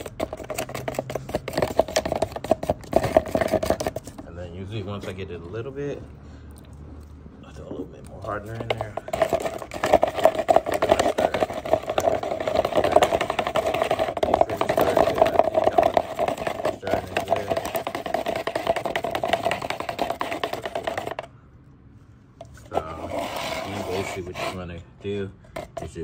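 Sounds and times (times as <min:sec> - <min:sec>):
stick stirring resin in plastic cup: 0:00.0 - 0:06.0, 0:07.0 - 0:21.3, 0:22.4 - 0:26.0.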